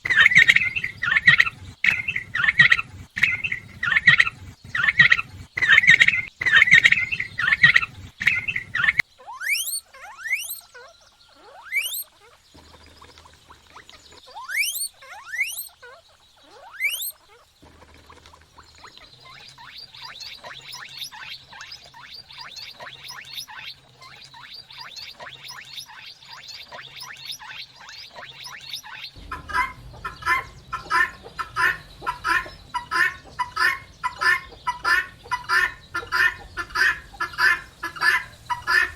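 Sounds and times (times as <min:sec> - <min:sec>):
whistled bird chirps: 0:00.0 - 0:13.0, 0:13.8 - 0:17.5, 0:18.6 - 0:36.4
bird calls: 0:00.0 - 0:38.9
high bird twittering: 0:00.0 - 0:38.9.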